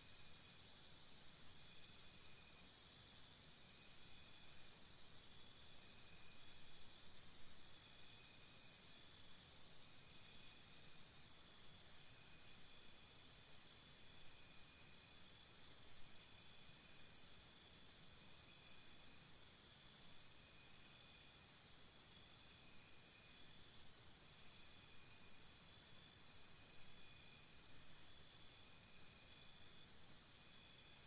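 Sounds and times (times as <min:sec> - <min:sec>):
insects trilling steadily: 0:00.0 - 0:31.0
insects chirping in pulsed trains: 0:00.2 - 0:31.0.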